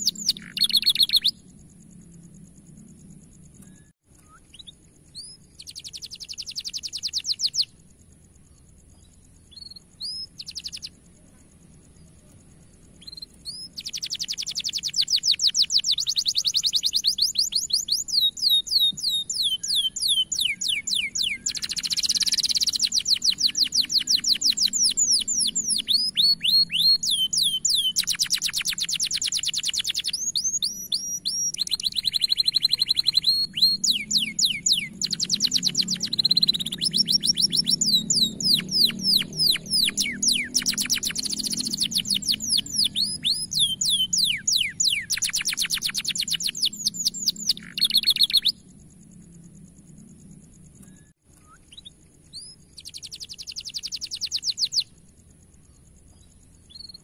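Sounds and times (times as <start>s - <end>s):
canary singing trills: 0.0s - 7.9s, 8.5s - 48.8s, 50.6s - 55.0s, 56.0s - 57.0s.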